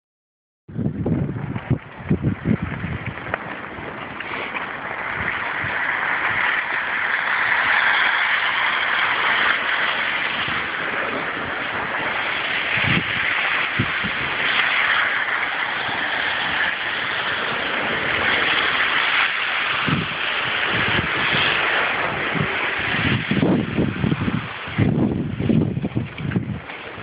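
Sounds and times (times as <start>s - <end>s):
blizzard wind hissing: 0.7s - 27.0s
wind gusts buffeting microphone: 0.7s - 27.0s.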